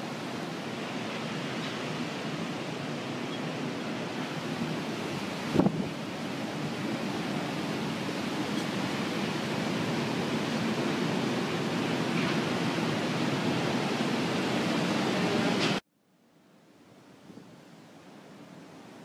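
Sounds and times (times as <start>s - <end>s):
hurricane wind and water rushing: 0.0s - 15.8s, 17.0s - 19.0s.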